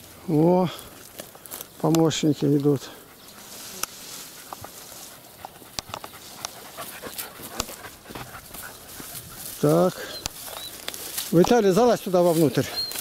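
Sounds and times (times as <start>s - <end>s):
dogs panting: 2.4s - 13.0s.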